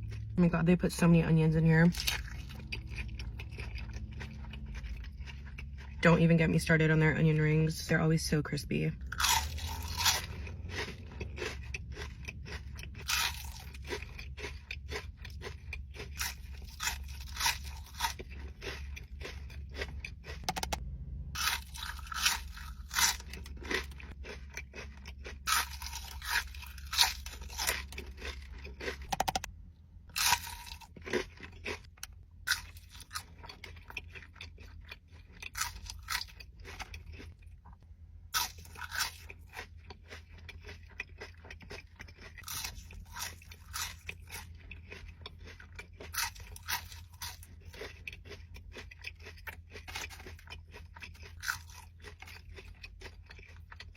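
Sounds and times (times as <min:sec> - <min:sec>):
wet chewing: 0:01.4 - 0:06.9, 0:09.0 - 0:20.8, 0:21.4 - 0:29.5, 0:30.1 - 0:53.9
lettuce crunching: 0:01.8 - 0:06.4, 0:09.0 - 0:20.8, 0:21.4 - 0:29.5, 0:30.1 - 0:37.8, 0:38.4 - 0:53.9.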